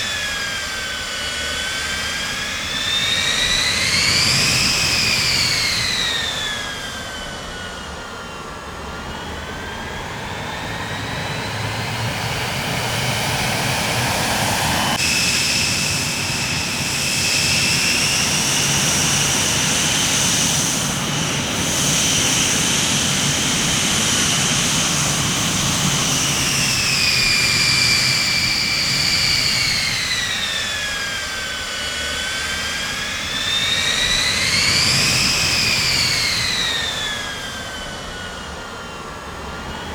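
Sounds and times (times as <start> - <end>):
jet engine rumble: 0.0 - 39.9
jet engine turbine whine: 0.0 - 39.9.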